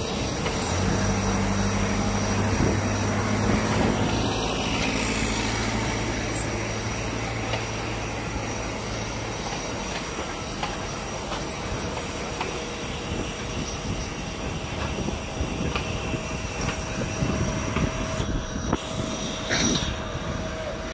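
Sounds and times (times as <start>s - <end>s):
low engine hum: 0.0s - 20.9s
rushing of ramp machinery: 0.0s - 20.9s
thin high whine: 0.0s - 20.9s.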